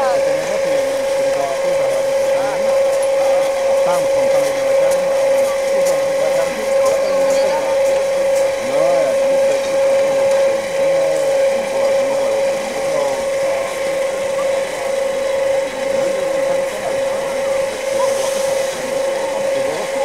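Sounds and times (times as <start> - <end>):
faint voices: 0.0 - 20.0
steady machine whine: 0.0 - 20.0.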